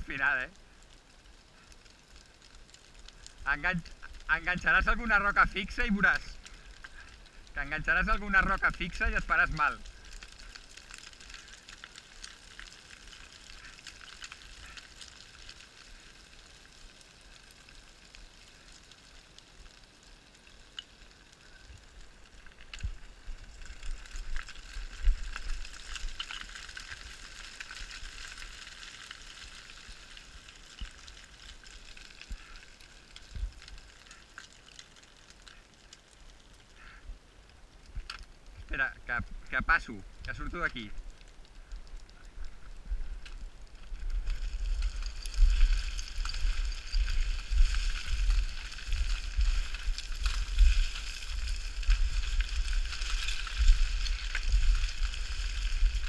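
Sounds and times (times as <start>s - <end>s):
scree stones trickling and clattering: 0.0s - 56.0s.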